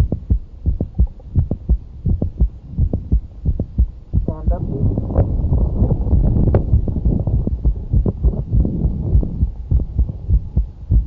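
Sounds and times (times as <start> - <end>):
heart click: 0.0 - 11.0
heartbeat through stethoscope: 0.0 - 11.0.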